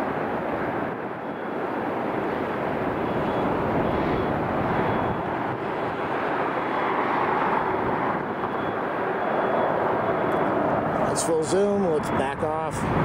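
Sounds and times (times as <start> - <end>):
jet airliner engine rushing: 0.0 - 13.0.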